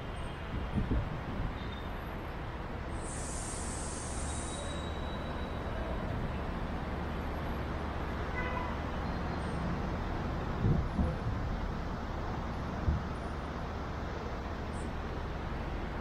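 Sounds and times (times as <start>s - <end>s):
city traffic hum: 0.0s - 16.0s.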